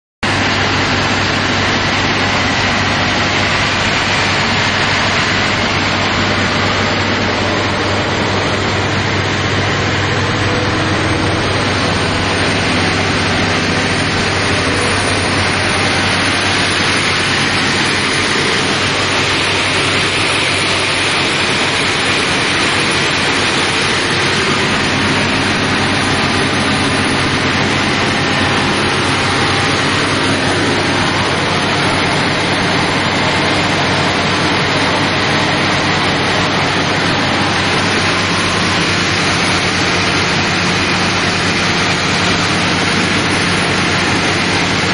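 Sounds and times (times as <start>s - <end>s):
pump engine running steadily: 0.2s - 44.9s.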